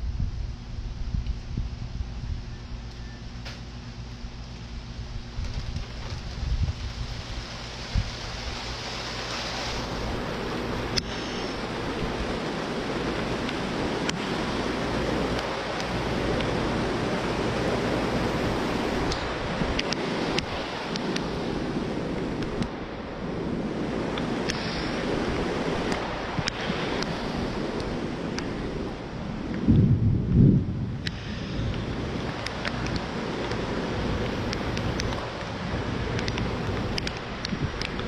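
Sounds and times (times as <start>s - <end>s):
wind buffeting microphone: 0.0s - 2.9s, 4.2s - 38.0s
storm wind: 0.0s - 38.0s
rain: 3.7s - 38.0s.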